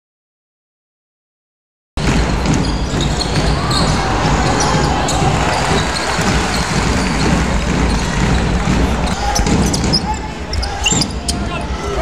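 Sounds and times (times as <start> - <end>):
crowd noise and voices: 2.0 - 12.0.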